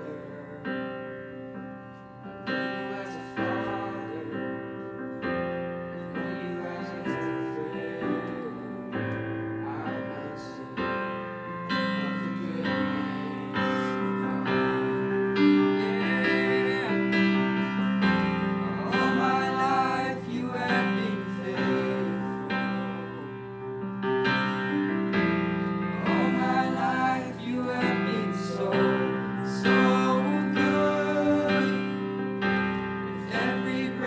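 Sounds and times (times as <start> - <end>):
person singing: 0.0 - 1.2, 2.5 - 23.6, 25.9 - 32.3, 33.1 - 34.0
piano chords: 0.0 - 34.0.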